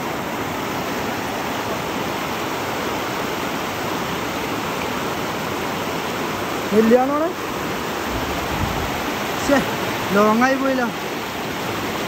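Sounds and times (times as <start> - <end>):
river rapids roaring over rocks: 0.0 - 12.0.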